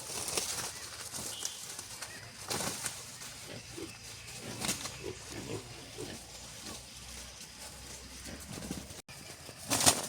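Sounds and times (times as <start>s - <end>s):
chickens clucking: 0.9s - 10.0s.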